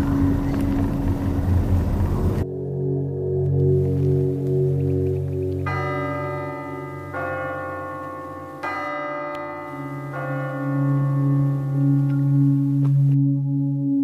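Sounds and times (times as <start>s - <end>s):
low drone: 0.0s - 14.0s
bell-like notes ringing: 2.4s - 14.0s.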